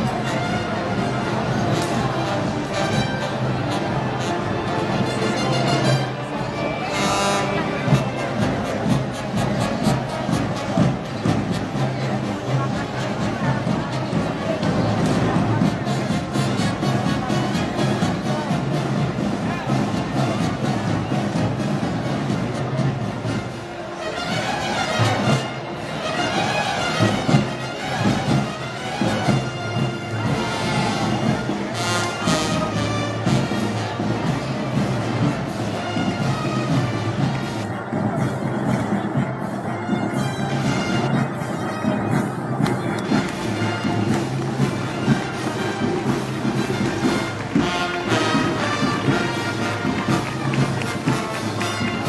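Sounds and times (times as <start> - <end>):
brass band march music: 0.0 - 52.0
steady drum beat: 7.2 - 23.8, 24.8 - 52.0.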